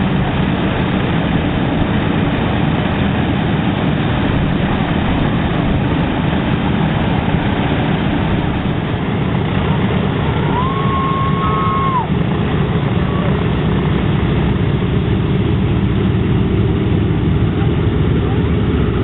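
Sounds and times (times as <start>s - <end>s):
radial aircraft engines droning: 0.0s - 19.0s.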